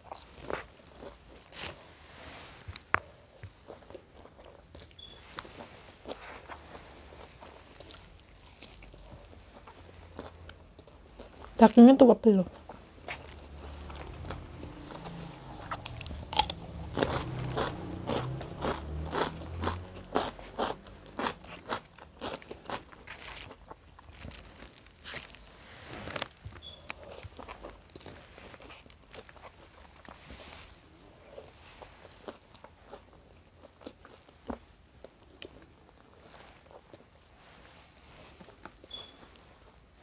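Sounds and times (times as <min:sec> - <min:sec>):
crunchy chewing of fried chicken: 0:00.0 - 0:01.9, 0:02.6 - 0:11.6, 0:12.5 - 0:39.8.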